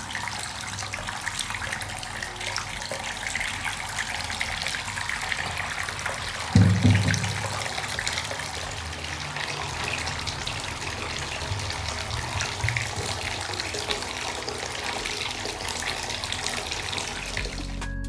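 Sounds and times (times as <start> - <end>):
tap water running into bathtub: 0.0 - 17.8
music: 0.0 - 18.0.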